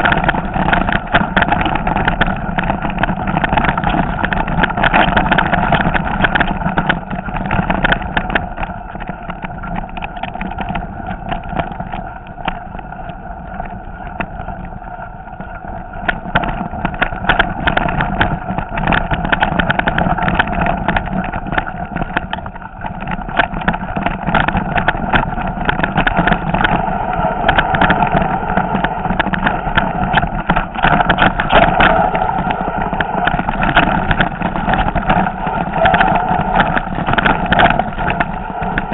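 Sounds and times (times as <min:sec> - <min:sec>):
bike and camera rattling: 0:00.0 - 0:38.9
bike tyres crunching over stones: 0:00.0 - 0:38.9
steady rumble: 0:00.0 - 0:38.9.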